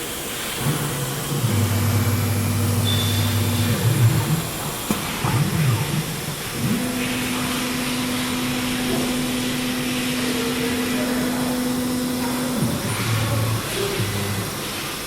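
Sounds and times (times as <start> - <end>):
cnc router whining: 0.0 - 15.0.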